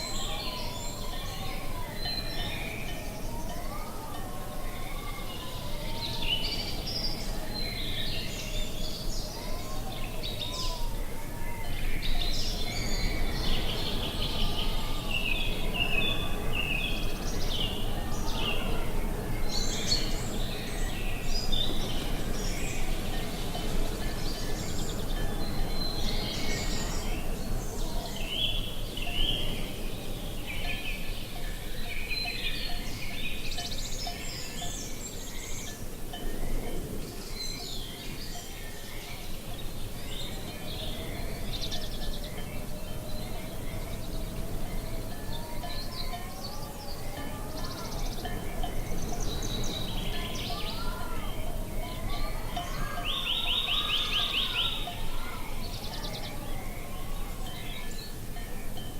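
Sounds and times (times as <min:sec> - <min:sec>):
birds chirping and singing: 0:00.0 - 0:36.3, 0:36.9 - 0:58.9.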